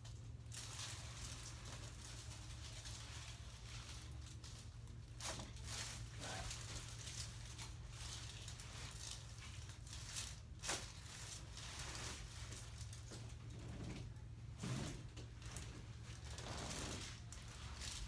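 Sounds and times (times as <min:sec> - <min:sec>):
faint rustling and handling: 0:00.0 - 0:18.0.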